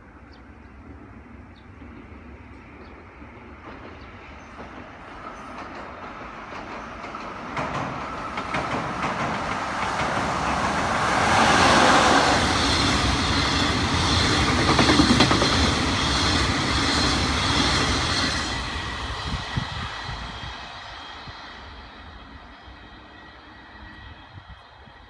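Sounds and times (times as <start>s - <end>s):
freight train passing at speed: 0.0s - 25.0s.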